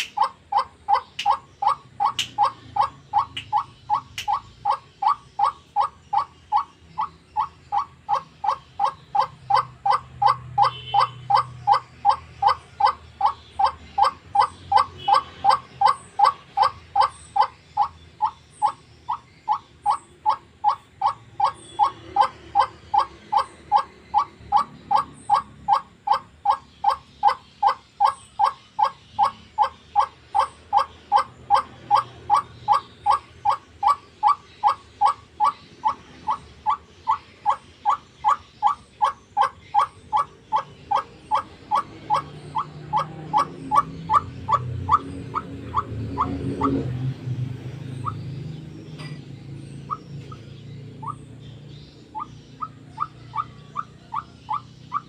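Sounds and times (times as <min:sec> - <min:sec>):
waterhen harsh rhythmic calls: 0:00.0 - 0:47.0, 0:49.8 - 0:55.0.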